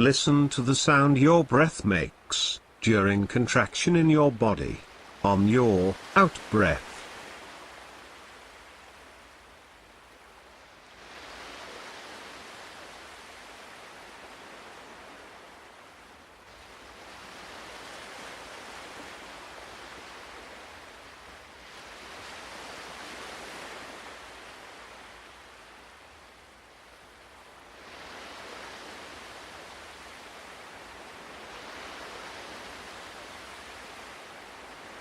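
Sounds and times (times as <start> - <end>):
ocean waves breaking on shore: 0.0 - 35.0.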